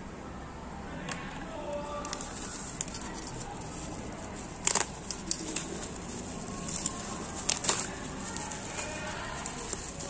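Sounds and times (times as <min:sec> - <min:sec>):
bubble wrap crackles: 0:01.8 - 0:10.0
bubble wrap crinkling: 0:01.8 - 0:10.0.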